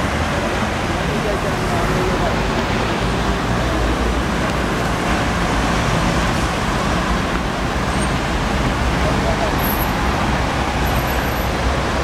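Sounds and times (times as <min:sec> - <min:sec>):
road traffic passing close by: 0:00.0 - 0:12.0.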